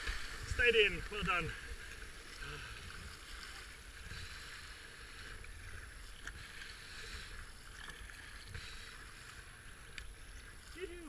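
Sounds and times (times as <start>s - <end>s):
water rushing around kayak hull: 0.0s - 11.0s.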